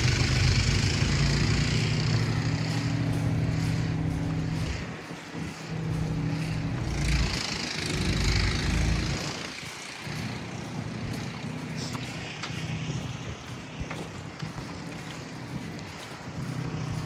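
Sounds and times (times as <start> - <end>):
vehicle engine humming: 0.0 - 17.0
wind buffeting microphone: 0.0 - 17.0.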